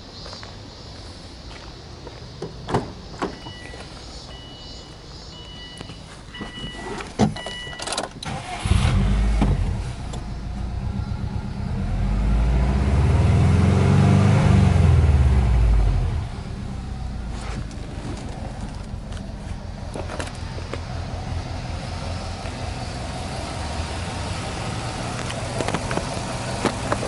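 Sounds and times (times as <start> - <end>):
car engine idling and revving: 3.0 - 27.0.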